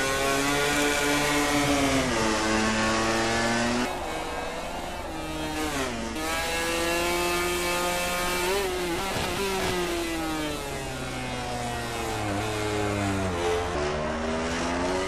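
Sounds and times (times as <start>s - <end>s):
racing motorcycle engine: 0.0s - 15.0s.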